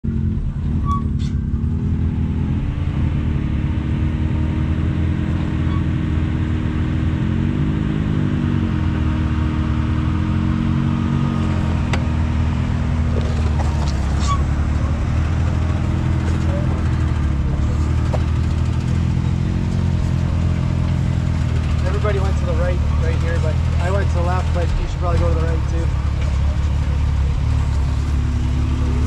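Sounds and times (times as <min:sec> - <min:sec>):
engine running at low revs: 0:00.0 - 0:29.0.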